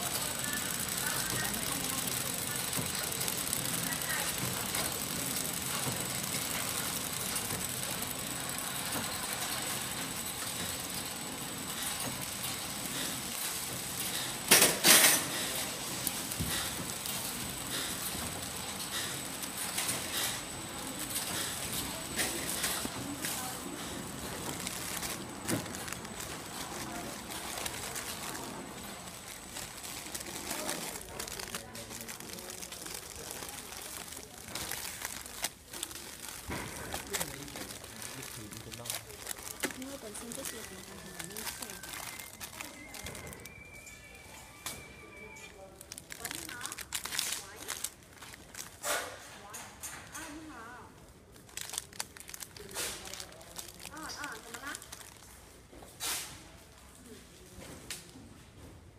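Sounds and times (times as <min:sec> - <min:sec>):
packaging machine running: 0:00.0 - 0:49.2, 0:51.3 - 0:55.3.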